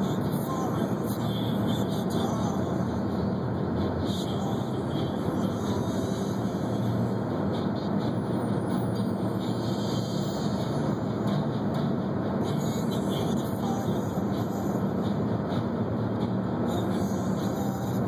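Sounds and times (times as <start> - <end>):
low engine hum: 0.0 - 18.0
tyre and road noise: 0.0 - 18.0.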